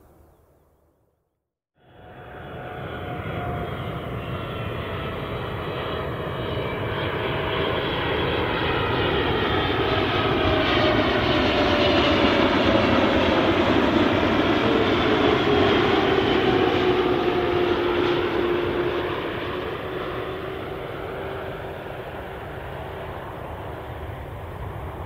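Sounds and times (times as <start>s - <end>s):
jet engines roaring: 1.8s - 25.0s.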